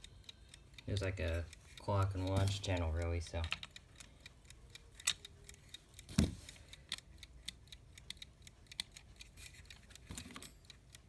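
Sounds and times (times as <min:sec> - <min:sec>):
small metallic clicks and taps: 0:00.0 - 0:11.0.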